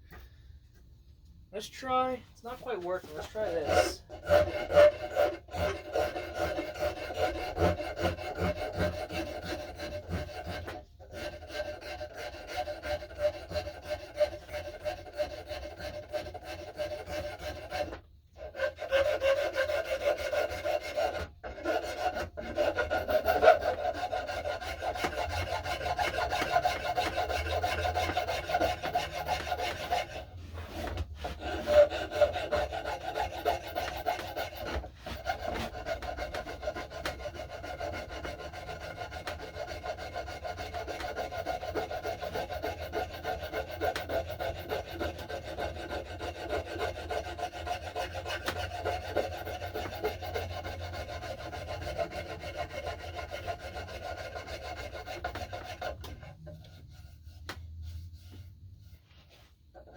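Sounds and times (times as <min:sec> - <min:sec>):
rasp scraping wood: 0:02.5 - 0:59.9.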